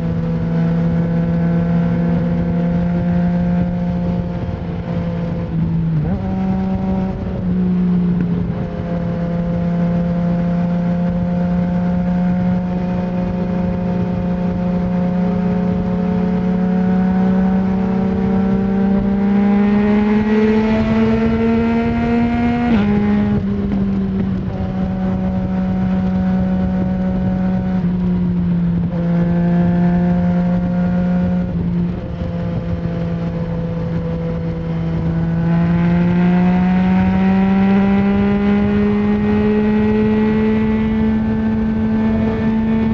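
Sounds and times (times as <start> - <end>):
motorcycle engine under way: 0.0 - 42.9.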